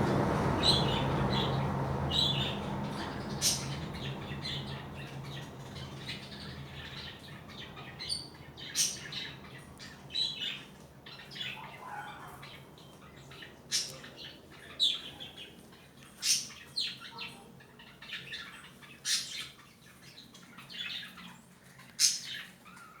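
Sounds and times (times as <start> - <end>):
birds chirping and squawking: 0.0 - 23.0.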